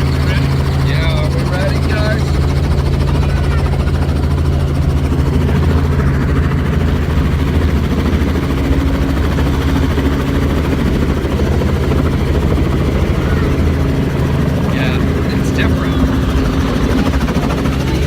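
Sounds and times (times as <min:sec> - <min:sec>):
helicopter rotor and engine: 0:00.0 - 0:18.0.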